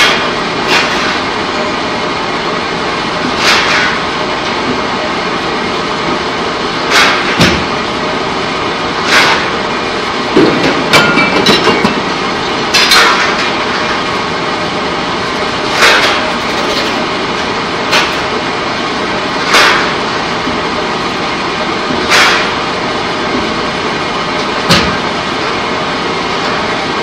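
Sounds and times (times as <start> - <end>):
machinery loud steady din: 0.0 - 27.0.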